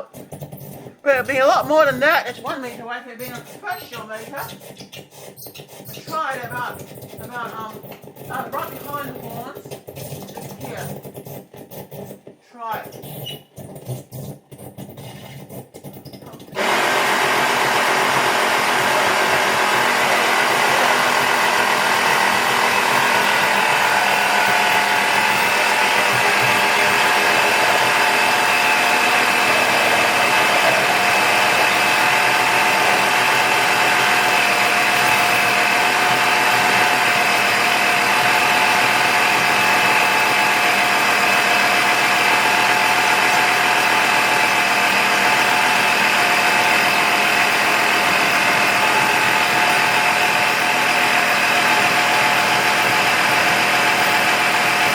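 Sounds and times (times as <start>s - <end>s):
electric air compressor running: 0.0s - 12.1s, 16.6s - 54.9s.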